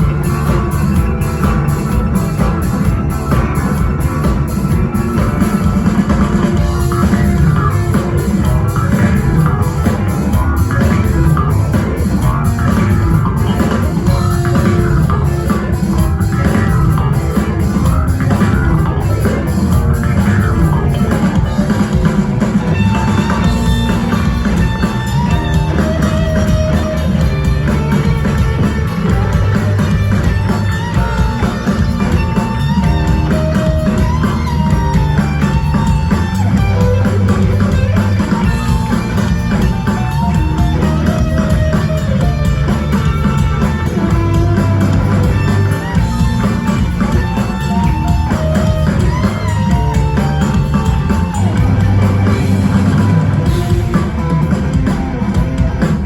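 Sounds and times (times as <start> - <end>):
drum kit playing: 0.0 - 56.0
electric guitars: 0.0 - 56.0.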